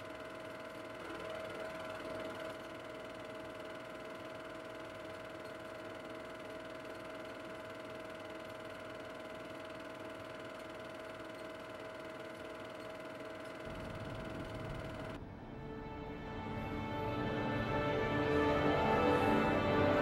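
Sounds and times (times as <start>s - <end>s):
machine whirring with high hum: 0.0s - 20.0s.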